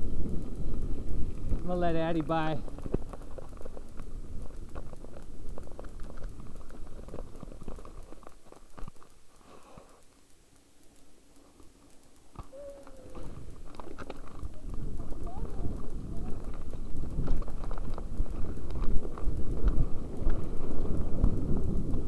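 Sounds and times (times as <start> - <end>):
bike tyres crunching on gravel: 0.0 - 10.1, 10.9 - 22.0
bike clicks and rattles: 0.0 - 22.0.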